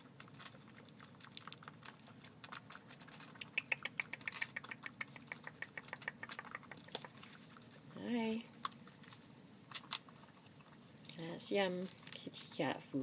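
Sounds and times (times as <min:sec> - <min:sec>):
animal chewing food: 0:00.0 - 0:12.3.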